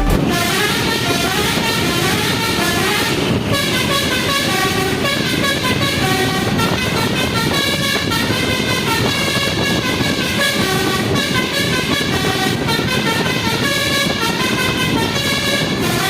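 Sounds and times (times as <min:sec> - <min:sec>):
engine rumble: 0:00.0 - 0:16.0
multi-tone bus horn melody: 0:00.0 - 0:16.0
street noise: 0:00.0 - 0:16.0.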